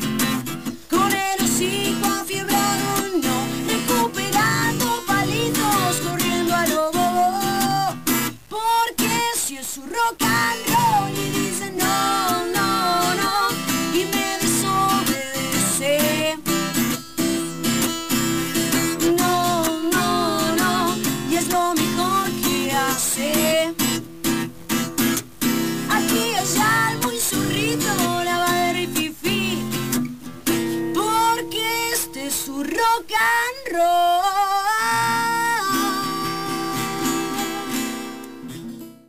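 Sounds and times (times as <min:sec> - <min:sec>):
woman singing: 0:00.0 - 0:17.9, 0:18.6 - 0:24.1, 0:25.6 - 0:38.5
acoustic guitar strumming: 0:00.0 - 0:39.0.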